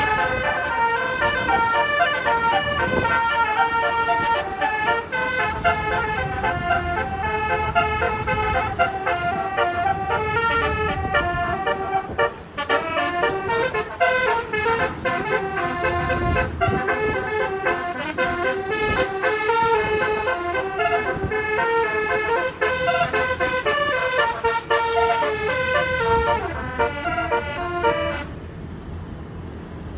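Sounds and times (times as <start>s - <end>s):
bus horn playing a melody: 0.0s - 28.7s.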